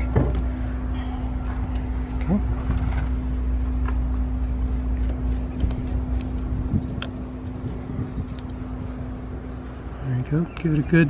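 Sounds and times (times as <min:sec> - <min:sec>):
low rumble: 0:00.0 - 0:11.0
mechanical hum: 0:00.0 - 0:11.0.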